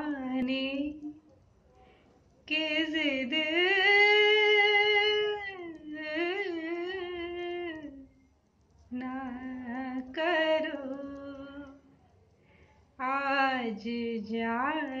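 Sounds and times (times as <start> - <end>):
woman singing unaccompanied: 0.0 - 1.3, 2.4 - 8.2, 8.9 - 11.9, 13.0 - 15.0.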